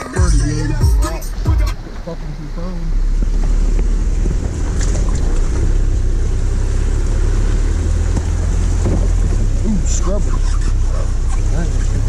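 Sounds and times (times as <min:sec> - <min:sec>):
engine and drivetrain rumbling: 0:00.0 - 0:12.0.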